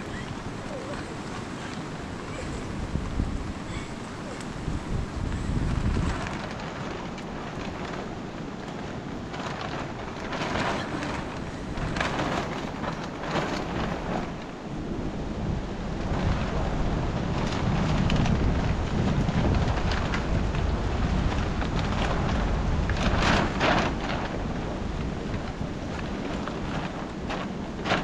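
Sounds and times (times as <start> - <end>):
plastic sheet crackling and rustling: 0.0 - 28.0
wind rumble on microphone: 0.0 - 28.0.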